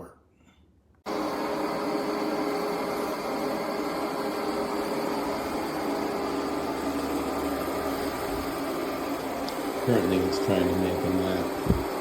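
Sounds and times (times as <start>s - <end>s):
robot vacuum running: 1.1s - 12.0s.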